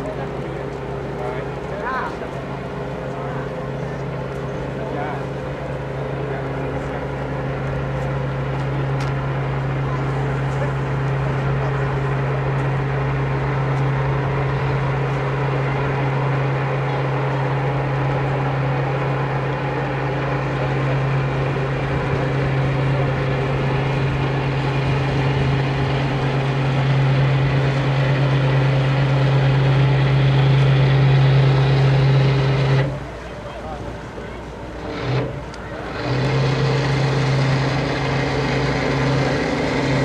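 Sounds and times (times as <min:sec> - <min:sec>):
steamer engine humming: 0:00.0 - 0:40.0.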